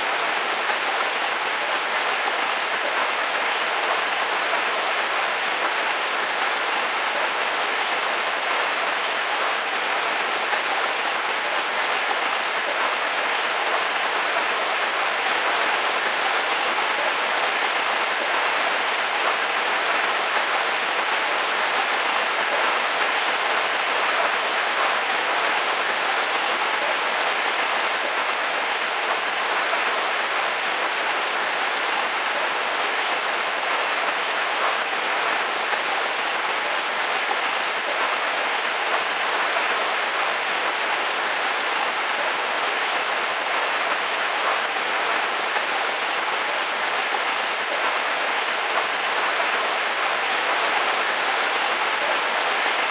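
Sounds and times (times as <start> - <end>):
heavy rain on a roof: 0.0 - 52.9.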